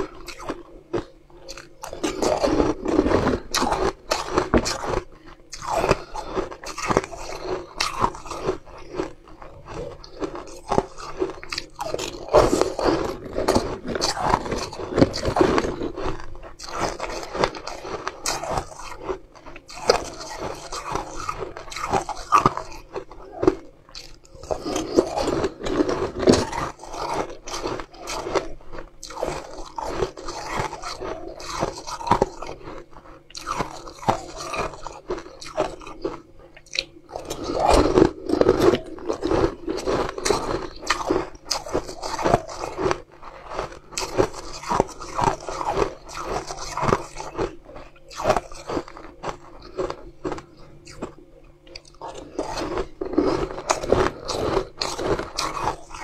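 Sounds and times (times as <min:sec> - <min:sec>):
sharp crunches and chewing: 0:00.0 - 0:56.0.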